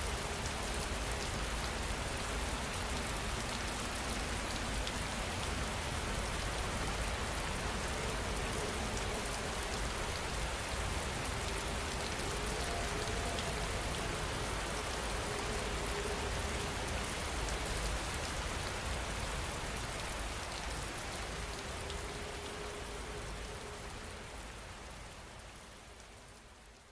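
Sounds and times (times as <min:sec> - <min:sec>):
heavy rain falling: 0:00.0 - 0:25.7.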